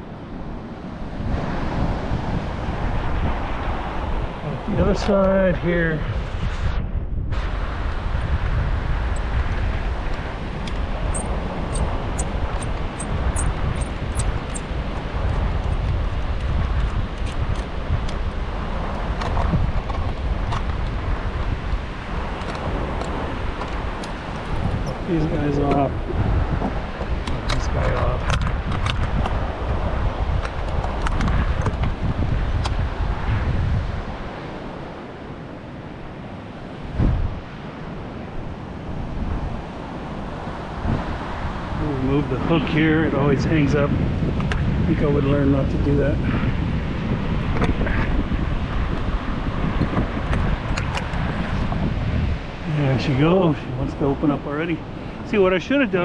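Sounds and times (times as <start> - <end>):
surf washing: 0.0 - 6.7, 7.3 - 56.0
wind buffeting microphone: 0.0 - 56.0.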